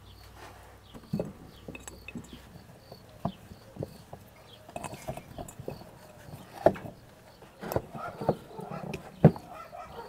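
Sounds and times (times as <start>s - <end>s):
food knocking against glass jars: 1.0s - 9.6s.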